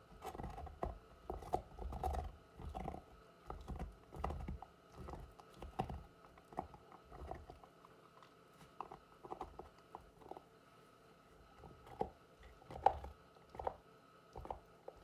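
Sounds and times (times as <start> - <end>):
dog gnawing on a hard chew: 0.0 - 10.5, 11.5 - 15.0.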